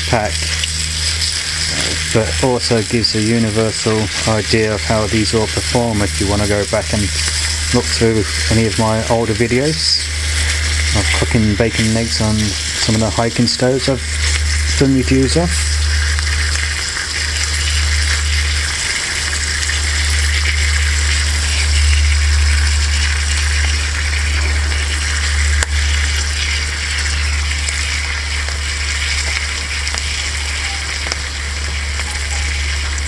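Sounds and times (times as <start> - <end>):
bacon sizzling in a frying pan: 0.0 - 33.0
low rumble: 0.0 - 33.0.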